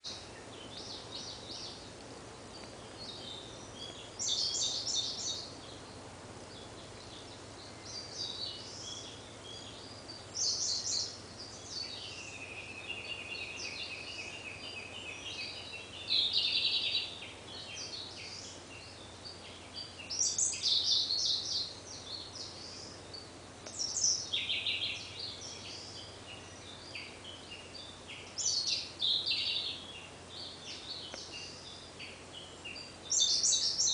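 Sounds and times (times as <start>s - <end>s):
bird singing trilled phrases: 2.5s - 33.9s.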